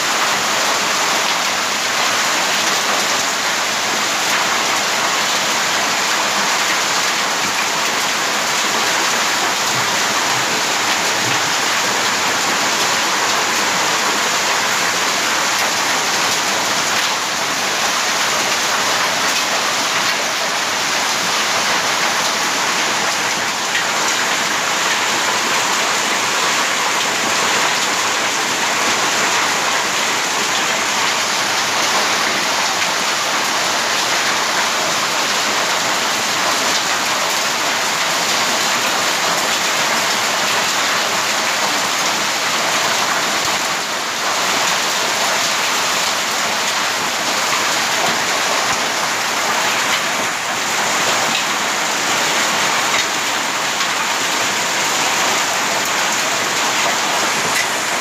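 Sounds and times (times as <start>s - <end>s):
heavy rain and hail on pavement: 0.0s - 58.0s.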